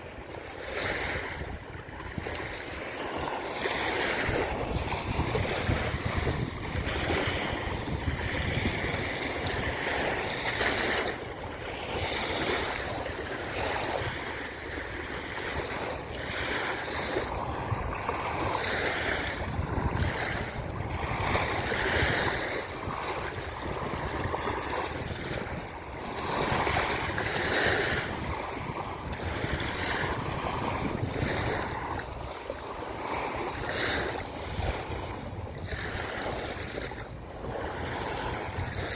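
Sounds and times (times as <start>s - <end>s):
waves washing onto beach: 0.0s - 38.9s
wind rumbling on microphone: 0.0s - 38.9s.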